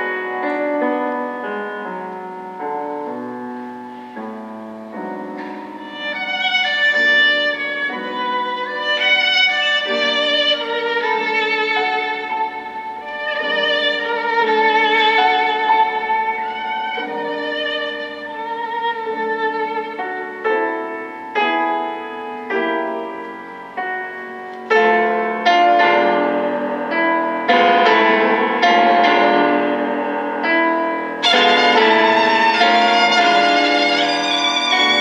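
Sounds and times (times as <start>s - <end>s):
piano chords: 0.0s - 35.0s
violin melody: 0.0s - 35.0s.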